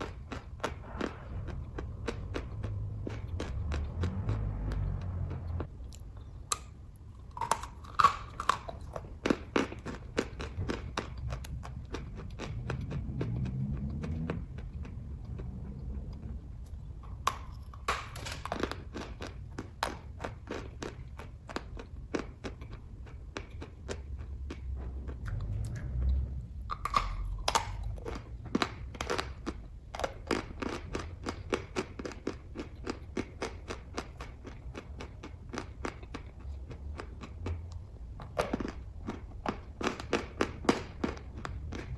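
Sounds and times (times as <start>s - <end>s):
chewing with mouth clicks: 0.0s - 41.9s.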